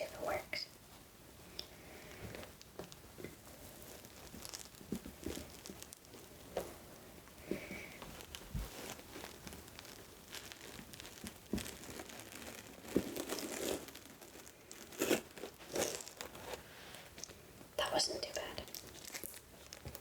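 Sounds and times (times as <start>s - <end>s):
packaging crinkling and rustling: 2.0s - 17.4s, 18.2s - 20.0s.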